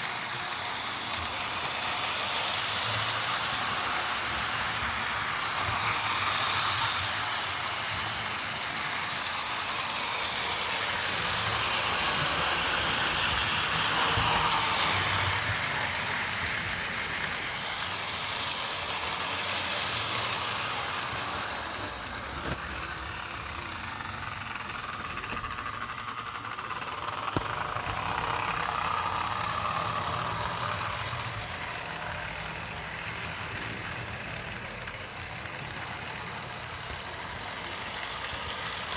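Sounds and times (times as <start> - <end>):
toy train motor whirring: 0.0 - 38.9.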